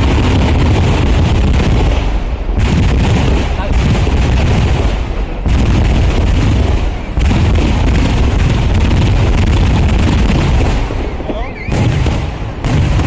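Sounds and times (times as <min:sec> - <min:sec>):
fireworks bangs and booms: 0:00.0 - 0:13.0.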